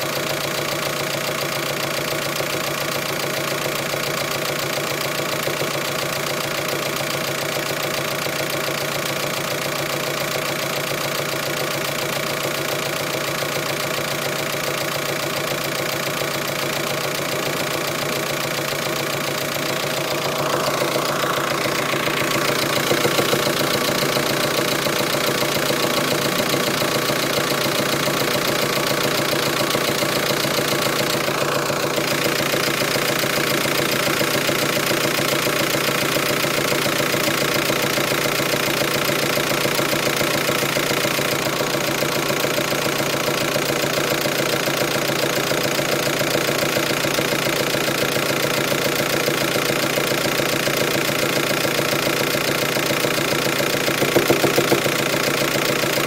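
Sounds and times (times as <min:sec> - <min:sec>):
engine idling: 0:00.0 - 0:56.0
intermittent engine knocking: 0:00.0 - 0:56.0.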